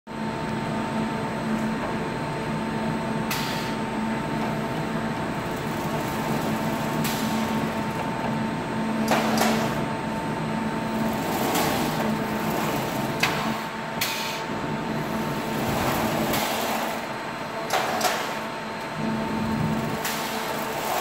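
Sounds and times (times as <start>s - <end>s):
conveyor machine hum: 0.1s - 21.0s.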